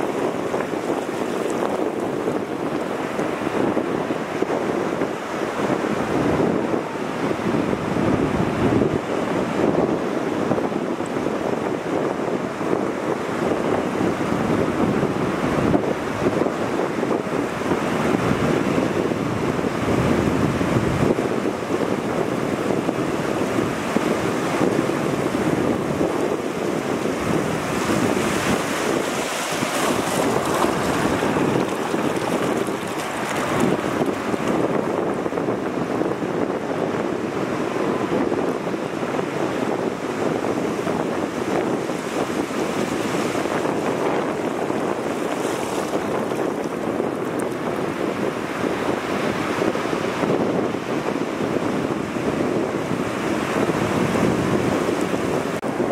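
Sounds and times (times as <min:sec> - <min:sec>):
sea surf breaking: 0:00.0 - 0:16.5, 0:17.1 - 0:55.9
wind buffeting microphone: 0:00.0 - 0:55.9.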